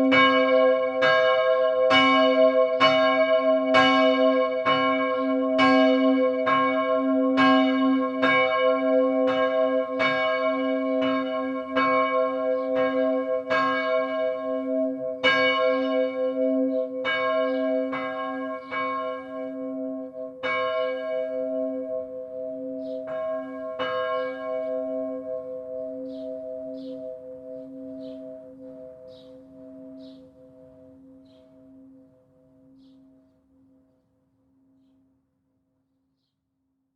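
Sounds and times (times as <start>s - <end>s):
church bell ringing: 0.0s - 33.3s.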